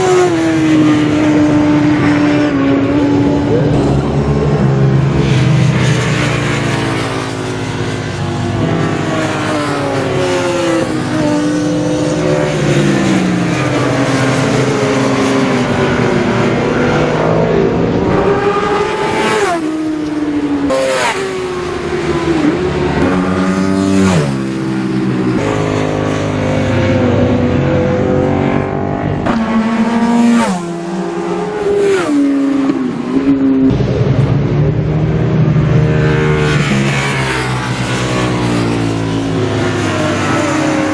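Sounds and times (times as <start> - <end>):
motorcycles passing fast: 0.0 - 40.9
racing motorcycles revving: 0.0 - 40.9.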